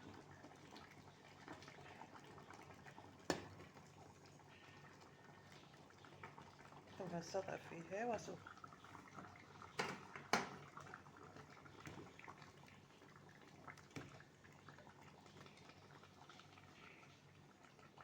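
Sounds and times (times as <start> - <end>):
stew bubbling softly in pot: 0.0 - 18.0.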